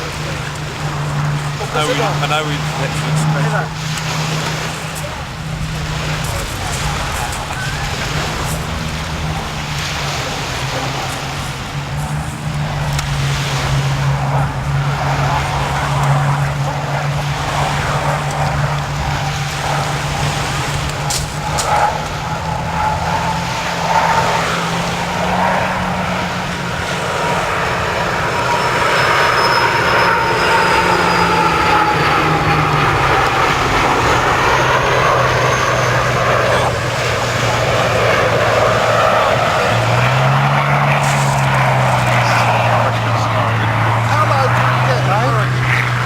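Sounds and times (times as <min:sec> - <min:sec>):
aircraft engines droning: 0:00.0 - 0:46.0.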